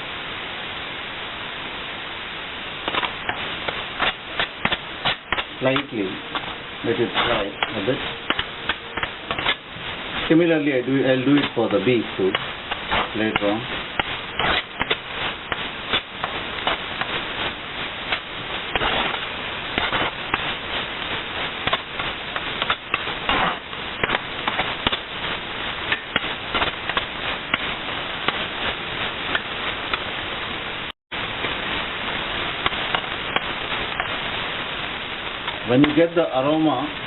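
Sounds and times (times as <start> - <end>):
coconut sizzling in oil: 0.0 - 37.0.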